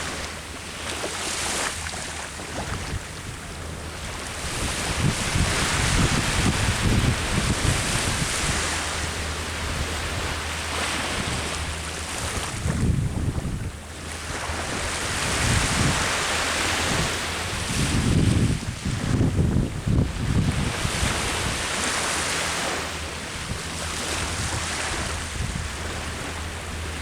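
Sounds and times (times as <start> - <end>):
ocean surf breaking on shore: 0.0 - 27.0
wind buffeting microphone: 0.0 - 27.0.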